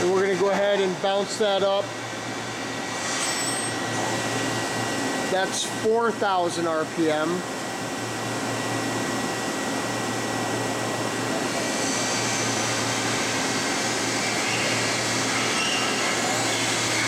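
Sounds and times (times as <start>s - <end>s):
machine spindle running: 0.0s - 17.0s.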